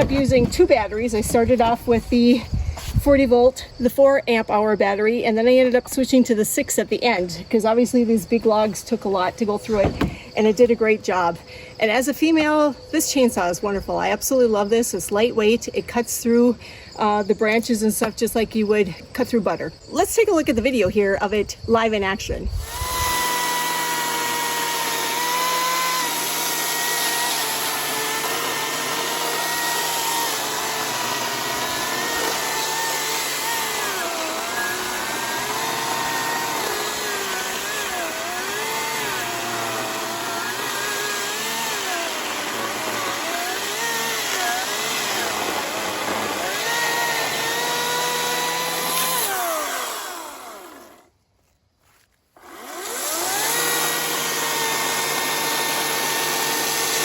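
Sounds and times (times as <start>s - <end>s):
battery chainsaw motor whine: 0.0s - 13.2s, 22.4s - 51.2s, 51.8s - 57.0s.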